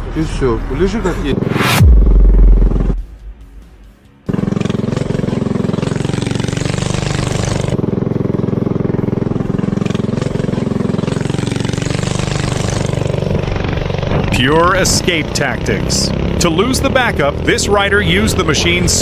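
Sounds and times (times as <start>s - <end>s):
motorcycle engine revving: 1.0s - 19.0s.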